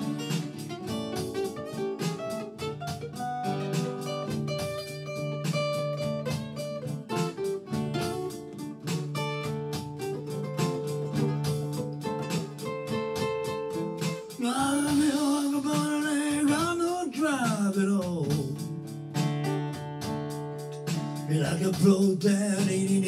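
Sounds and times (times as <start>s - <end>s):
acoustic blues guitar picking: 0.0s - 23.0s.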